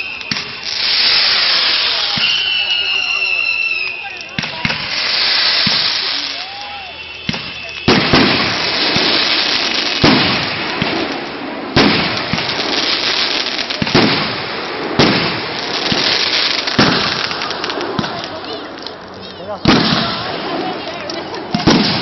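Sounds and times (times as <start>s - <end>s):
fireworks bangs: 0.0s - 22.0s
fireworks crackling hiss: 0.0s - 22.0s.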